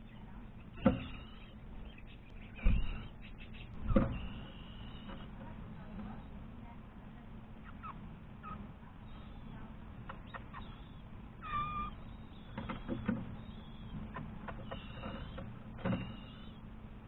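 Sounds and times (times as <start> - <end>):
bird calls: 0.0 - 6.6, 7.4 - 17.0.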